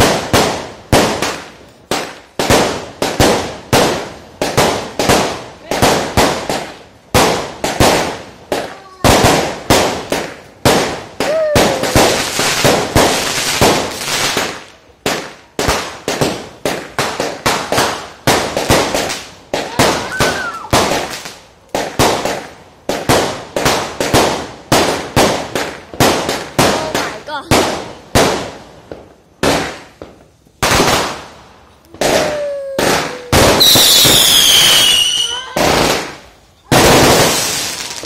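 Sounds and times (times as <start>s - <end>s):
firework shells bursting: 0.0s - 38.0s.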